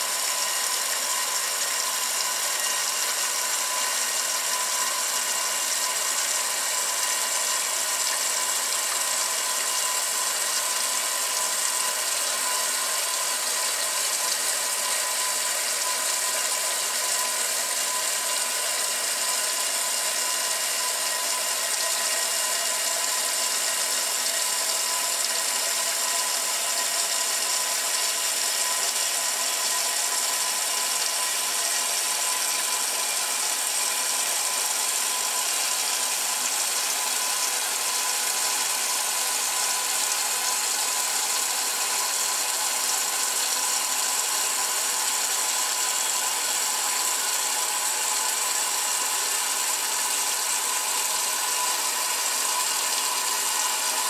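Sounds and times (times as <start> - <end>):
washing machine agitating: 0.0 - 54.0.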